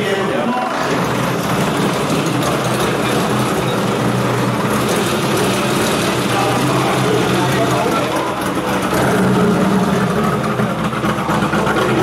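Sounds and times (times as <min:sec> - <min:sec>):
race car engine idling: 0:00.0 - 0:12.0.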